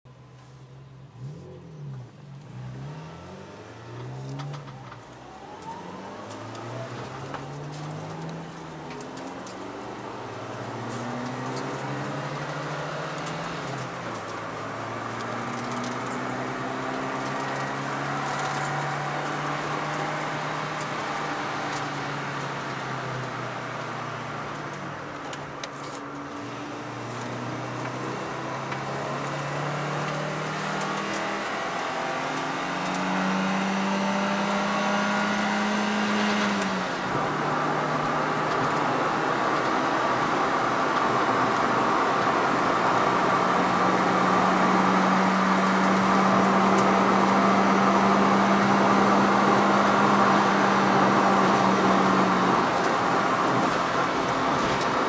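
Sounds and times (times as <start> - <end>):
road and tyre noise: 0.1 - 55.0
car engine revving through gears: 0.8 - 55.0.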